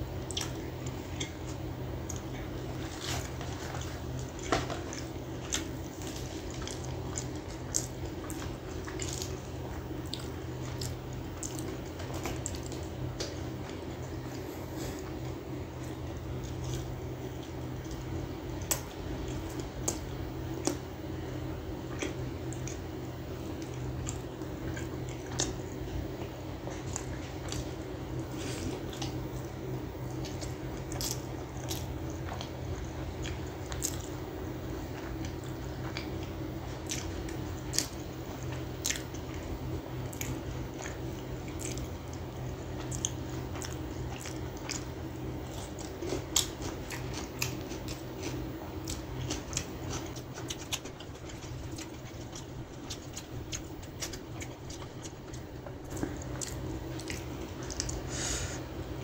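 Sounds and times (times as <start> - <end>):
chewing fried chicken: 0.0 - 59.0
steady low hum: 0.0 - 59.0.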